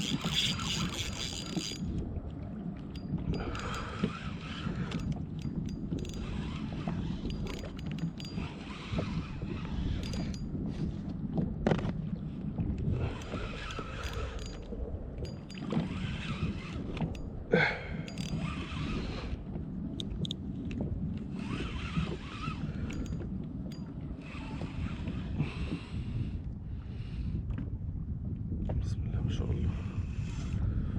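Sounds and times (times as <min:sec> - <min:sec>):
low wind rumble on microphone: 0:00.0 - 0:30.9
water lapping around a kayak: 0:00.0 - 0:30.9.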